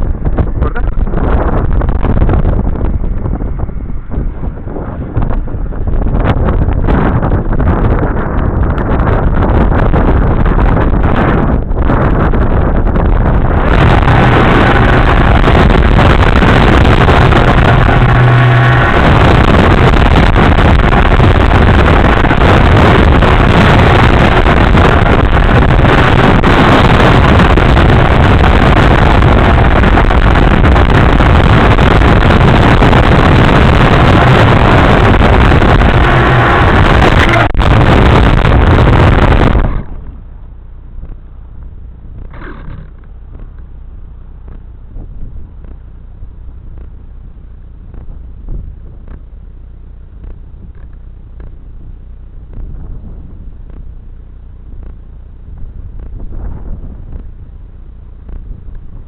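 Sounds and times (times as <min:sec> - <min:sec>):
low hum: 0:00.0 - 0:59.0
vehicle noise: 0:00.0 - 0:59.0
wind rushing on microphone: 0:00.0 - 0:59.0.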